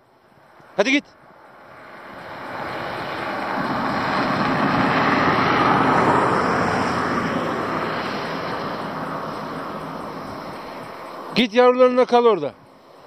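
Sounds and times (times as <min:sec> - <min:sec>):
vehicle passing on highway: 0:00.0 - 0:13.0.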